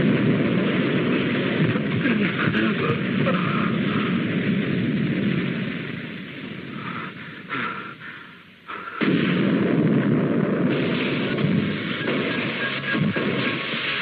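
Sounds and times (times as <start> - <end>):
explosion: 0.0 - 7.6, 8.7 - 14.0
loud noisy rumble: 0.0 - 7.9, 8.6 - 14.0.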